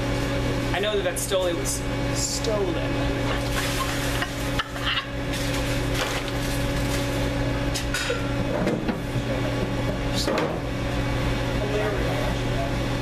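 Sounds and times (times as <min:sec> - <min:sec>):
kitchen equipment humming: 0:00.0 - 0:13.0.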